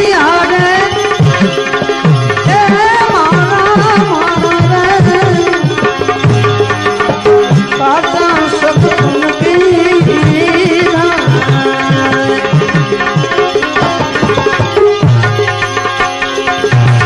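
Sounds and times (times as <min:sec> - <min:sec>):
tabla playing: 0:00.0 - 0:17.0.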